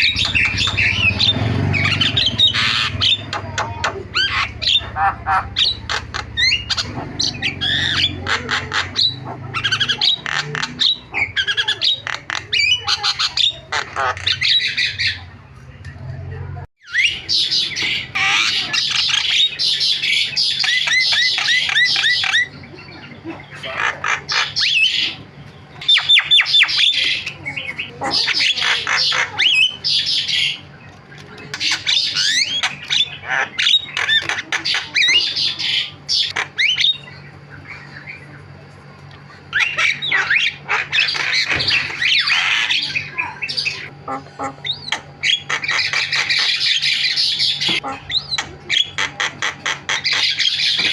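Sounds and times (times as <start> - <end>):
myna bird singing: 0.0 - 16.2, 16.8 - 50.9.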